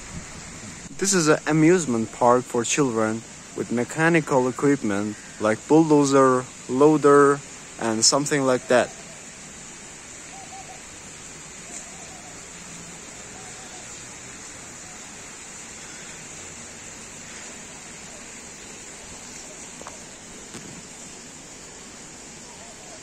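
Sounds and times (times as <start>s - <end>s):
rushing hiss: 0.0s - 23.0s.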